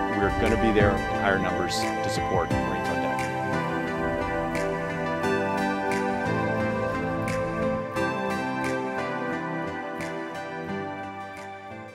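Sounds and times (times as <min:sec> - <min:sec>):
light percussion: 0:00.0 - 0:11.9
soft instrumental music: 0:00.0 - 0:11.9.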